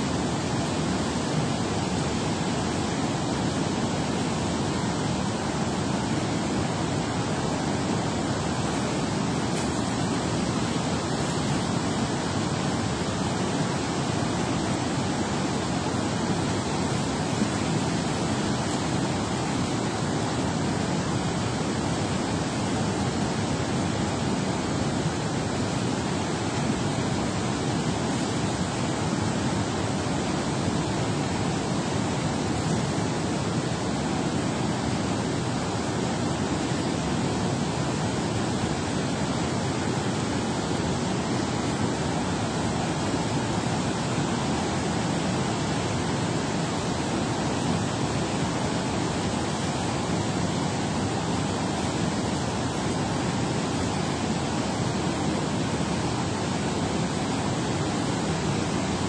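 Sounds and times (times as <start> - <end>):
water roaring from dam spillway: 0.0 - 59.0.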